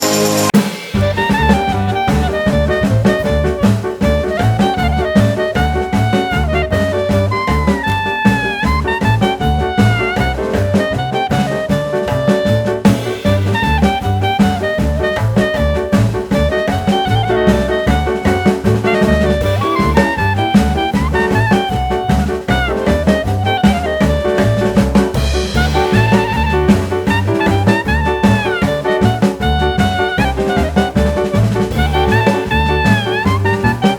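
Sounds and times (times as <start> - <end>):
saxophone melody: 0.0 - 33.9
swing beat of drums and bass: 0.0 - 33.9.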